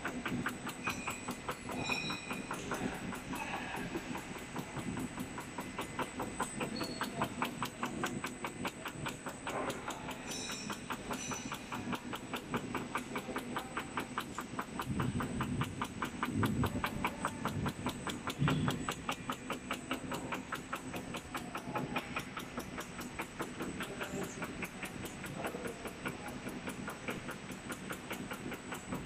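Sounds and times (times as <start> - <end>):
die-cutting machine clicking: 0.0 - 29.0.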